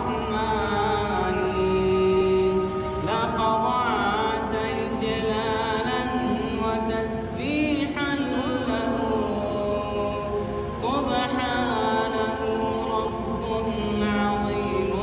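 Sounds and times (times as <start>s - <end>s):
man singing slowly: 0.0s - 15.0s.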